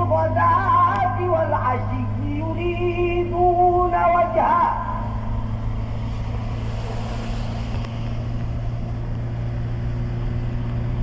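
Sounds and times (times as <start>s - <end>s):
low engine drone: 0.0s - 11.0s
road noise: 0.0s - 11.0s.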